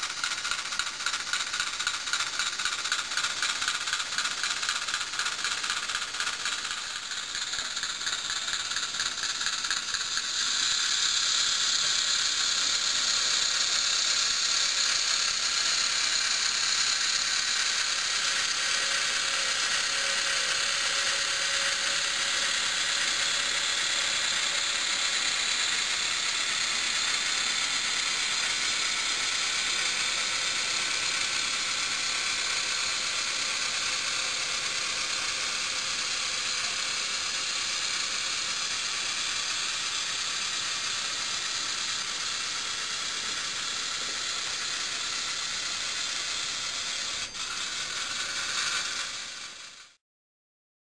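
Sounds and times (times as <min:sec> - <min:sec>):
model train wheels rattling on rails: 0:00.0 - 0:50.0.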